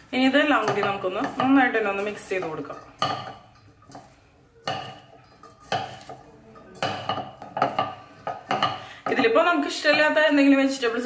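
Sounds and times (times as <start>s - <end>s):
vegetables rustling in metal pot: 0.0s - 11.0s.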